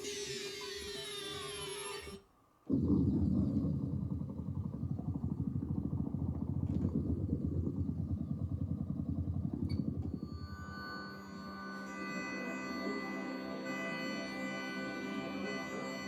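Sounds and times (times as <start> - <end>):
synthesizer engine-like rumble: 2.8 - 16.0.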